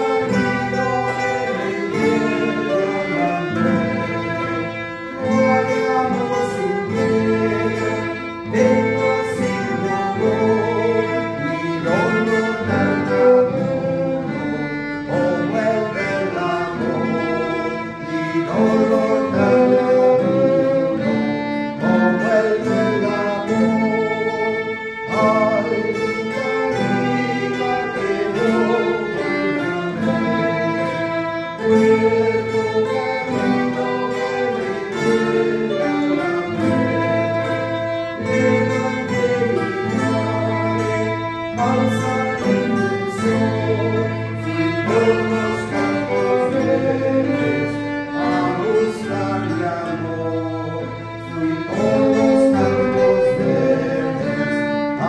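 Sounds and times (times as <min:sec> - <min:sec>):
plucked string ensemble: 0:00.0 - 0:55.0
violin: 0:00.0 - 0:55.0.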